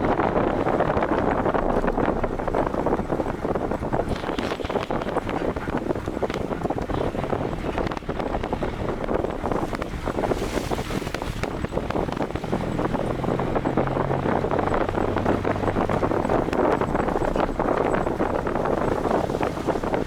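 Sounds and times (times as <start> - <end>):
road noise: 0.0 - 20.0
vehicle engine drone: 0.0 - 20.0
wind buffeting microphone: 0.0 - 20.0.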